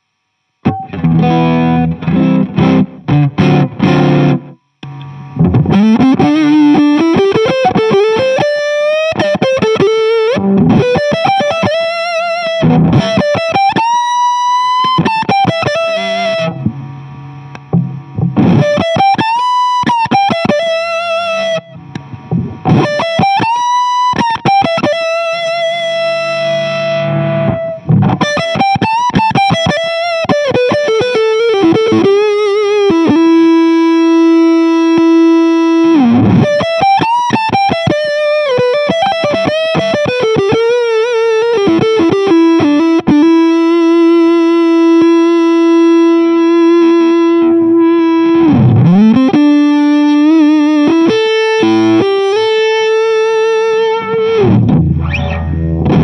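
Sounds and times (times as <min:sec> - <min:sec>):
distorted electric guitar lead: 0:00.0 - 0:56.0.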